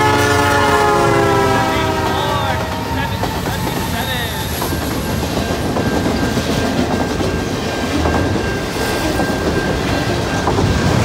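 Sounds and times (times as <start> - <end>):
freight train rolling past: 0.0 - 11.0
steel wheels clattering on rails: 0.8 - 11.0.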